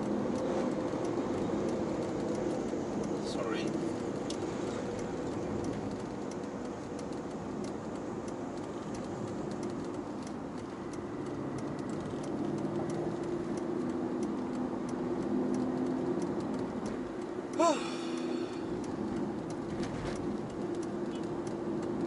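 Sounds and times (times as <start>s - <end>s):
car engine and tyre drone: 0.0s - 22.0s
faint clicks: 0.3s - 22.0s.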